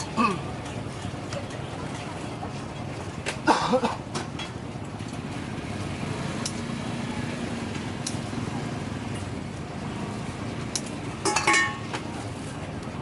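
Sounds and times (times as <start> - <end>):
street market din: 0.0 - 13.0
traffic noise: 0.0 - 13.0.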